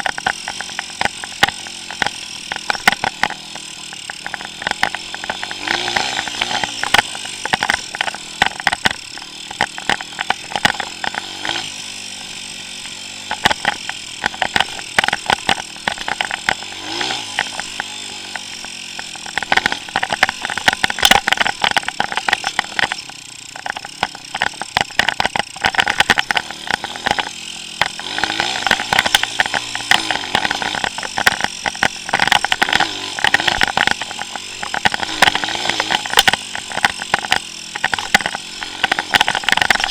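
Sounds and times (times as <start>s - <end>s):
motorbike engine revving: 0.0s - 39.9s
sharp clicks and knocks: 0.0s - 39.9s.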